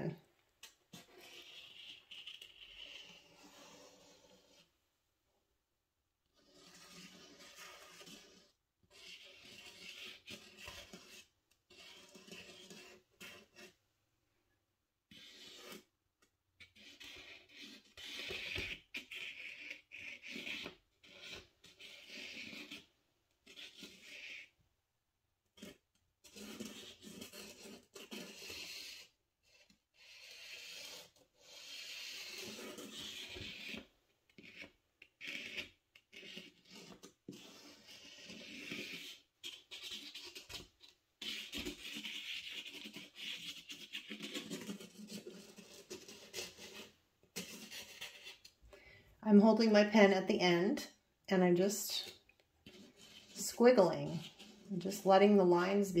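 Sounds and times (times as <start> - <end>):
paint pen scratching on paper: 0.0 - 4.7, 6.3 - 13.8, 15.1 - 15.9, 16.6 - 24.5, 25.6 - 48.6, 49.6 - 56.0.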